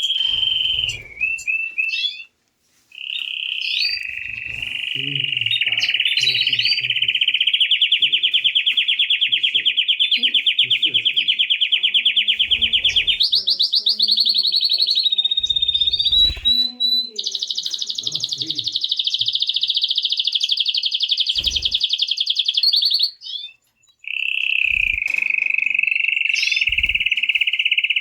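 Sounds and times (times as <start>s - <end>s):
canary singing trills: 0.0s - 28.0s.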